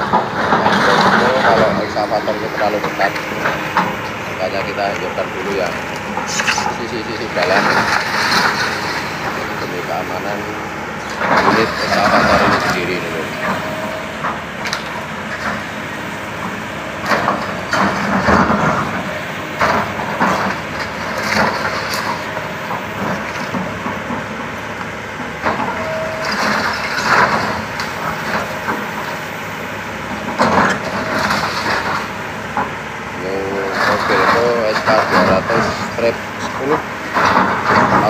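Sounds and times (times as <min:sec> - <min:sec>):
falling walls and rubble crashing: 0:00.0 - 0:15.8, 0:17.0 - 0:24.4, 0:25.5 - 0:29.1, 0:30.3 - 0:32.2, 0:33.2 - 0:38.0
excavator engine running: 0:00.0 - 0:38.0.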